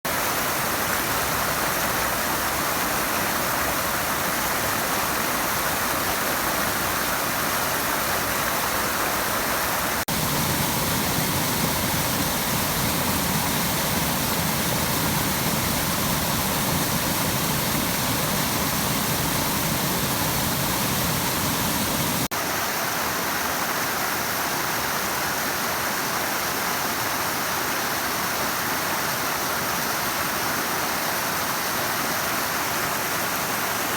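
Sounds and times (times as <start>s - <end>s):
creek water rushing: 0.0s - 33.9s.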